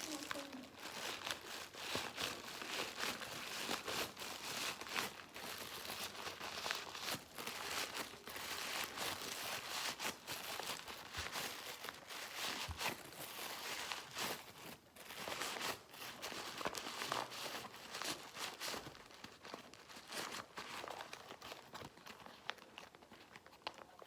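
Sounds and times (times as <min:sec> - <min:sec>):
paper crinkling: 0:00.0 - 0:24.0.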